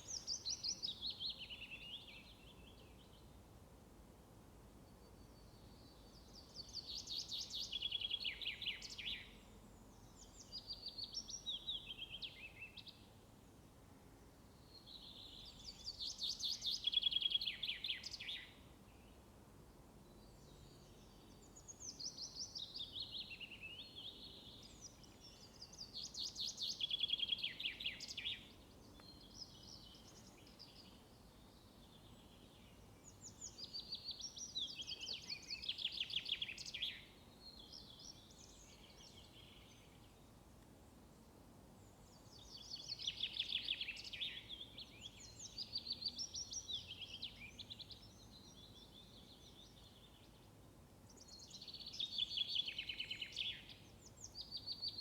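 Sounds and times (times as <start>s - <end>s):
songbird singing: 0.0s - 3.4s, 4.8s - 13.6s, 14.5s - 19.3s, 19.9s - 55.0s
faint steady background noise: 0.0s - 55.0s.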